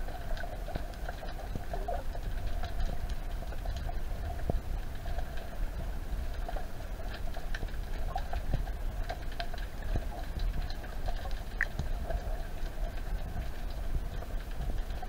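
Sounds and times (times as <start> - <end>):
faint steady hum: 0.0 - 15.0
low underwater rumble: 0.0 - 15.0
underwater clicks and crackles: 0.0 - 15.0.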